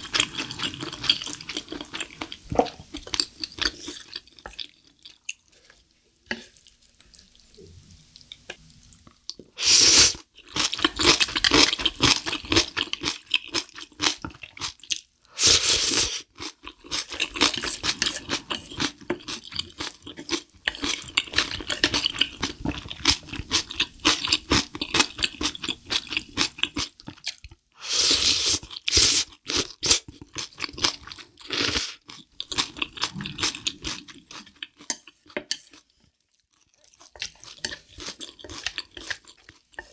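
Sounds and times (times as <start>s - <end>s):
wet chewing with crunching: 0.0s - 9.5s, 10.1s - 15.1s, 16.0s - 27.6s, 28.6s - 39.9s.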